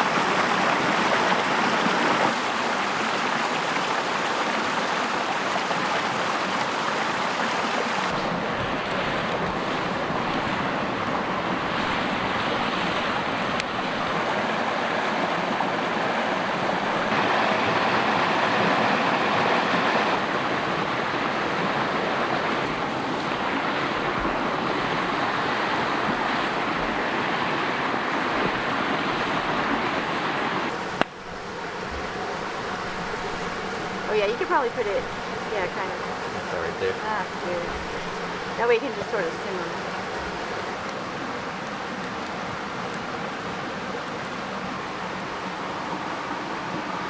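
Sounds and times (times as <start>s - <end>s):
creek water rushing: 0.0s - 47.0s.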